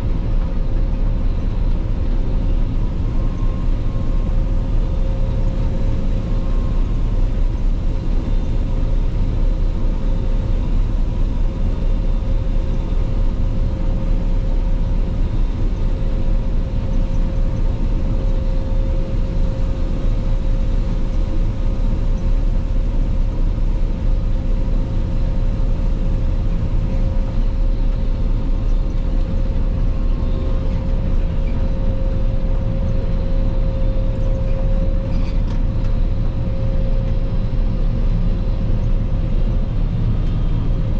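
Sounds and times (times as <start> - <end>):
steady machinery whine: 0.0 - 40.9.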